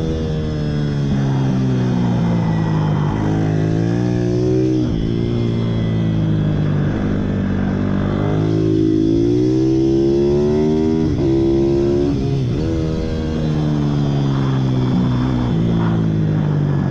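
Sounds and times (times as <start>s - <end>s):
motorbike engine revving: 0.0s - 16.9s.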